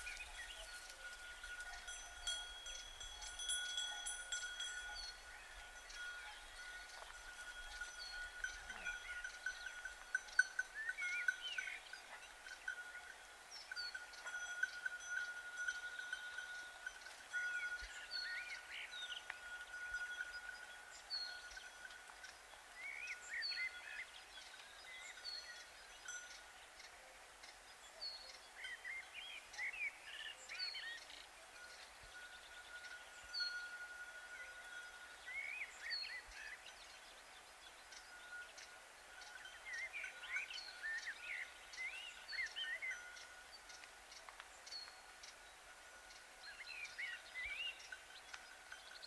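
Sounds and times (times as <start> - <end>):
cowbells ringing: 0.0 - 26.7, 30.3 - 43.9, 44.7 - 49.0
birds chirping: 0.0 - 49.0.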